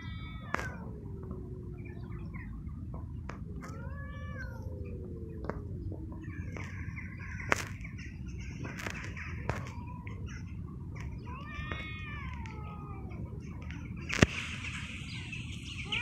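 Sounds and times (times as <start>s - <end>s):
cats crying: 0.0s - 2.5s, 3.4s - 14.2s, 15.7s - 16.0s
steady low rumble: 0.0s - 16.0s.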